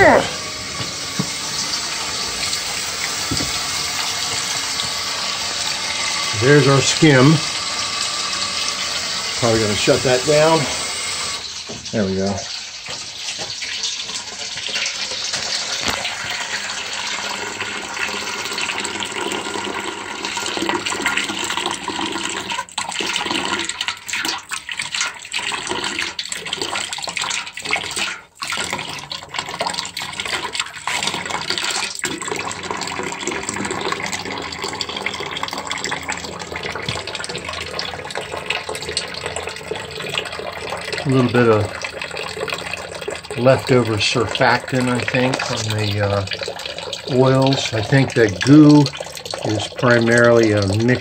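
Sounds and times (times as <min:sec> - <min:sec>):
water pouring into metal bucket: 0:00.0 - 0:51.0.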